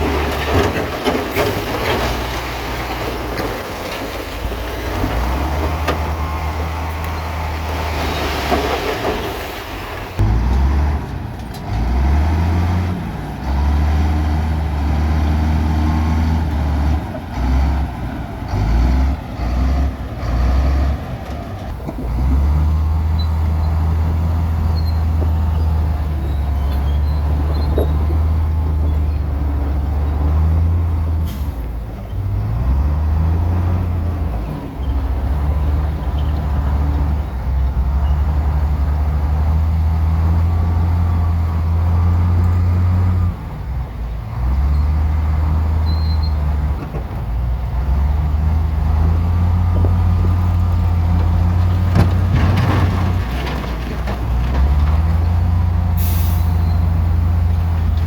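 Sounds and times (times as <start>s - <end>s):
diesel earthmoving machinery engine: 0.0s - 58.0s.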